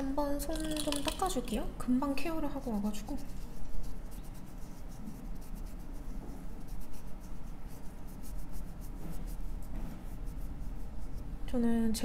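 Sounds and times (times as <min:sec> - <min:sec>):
scratchy rubbing on fingernails: 0:00.5 - 0:01.6, 0:02.4 - 0:11.3.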